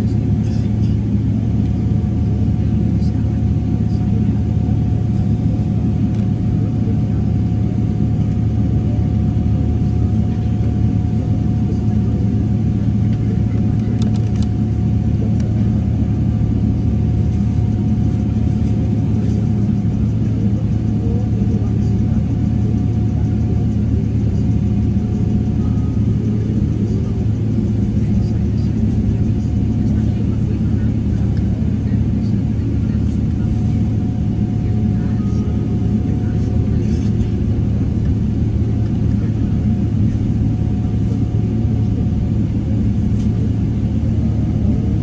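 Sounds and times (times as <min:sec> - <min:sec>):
engine whine: 0:00.0 - 0:45.0
jet engine cabin rumble: 0:00.0 - 0:45.0.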